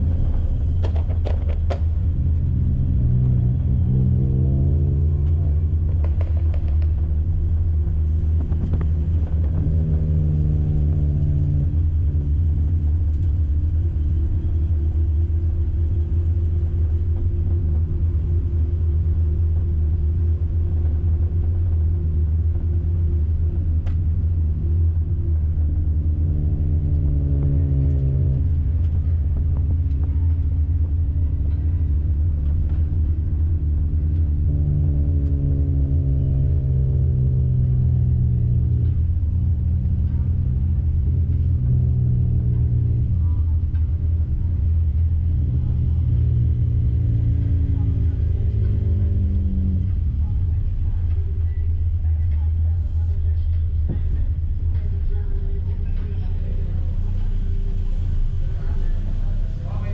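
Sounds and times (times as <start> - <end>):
race car engine drone: 0.0 - 59.9.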